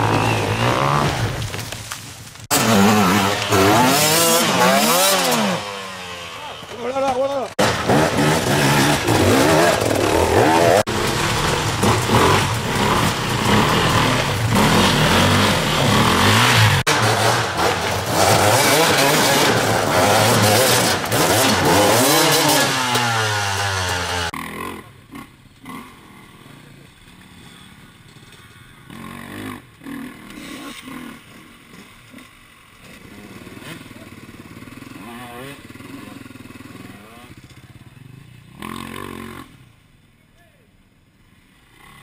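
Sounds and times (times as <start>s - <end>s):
dirt bike engines revving: 0.0s - 1.6s, 2.4s - 39.8s.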